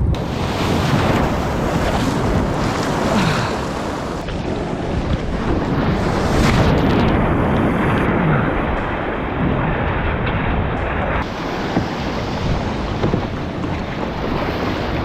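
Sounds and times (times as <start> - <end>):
ocean waves: 0.0 - 10.2, 10.9 - 15.0
wind buffeting microphone: 0.0 - 15.0.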